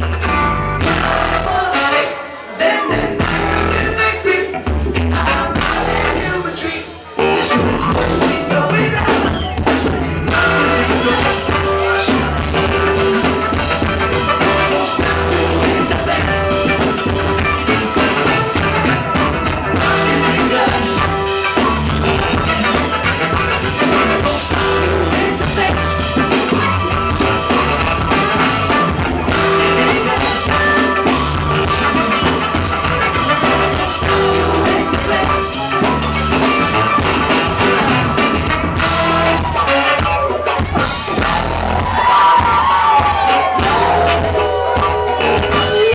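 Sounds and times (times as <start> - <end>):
bass line: 0.0 - 45.9
drums: 0.0 - 45.9
horns playing: 0.0 - 45.9
person singing: 0.8 - 45.9.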